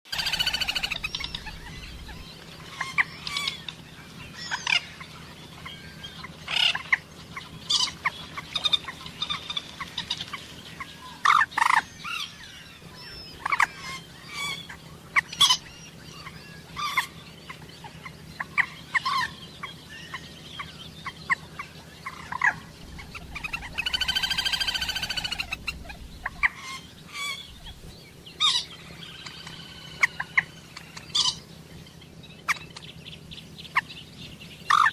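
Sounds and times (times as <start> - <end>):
moorhens calling: 0.1 - 34.9.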